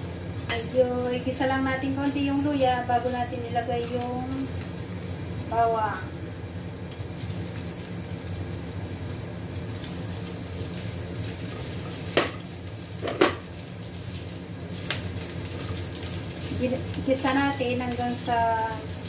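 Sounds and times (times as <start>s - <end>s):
food sauteing in hot oil: 0.0s - 19.0s.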